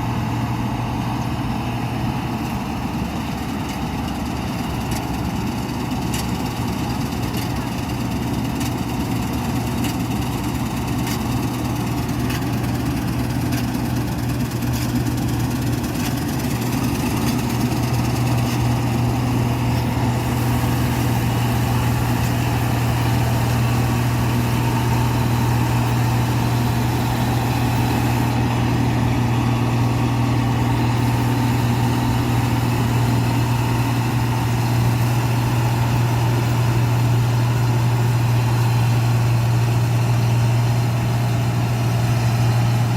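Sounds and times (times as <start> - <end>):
combine harvester engine humming: 0.0 - 42.9.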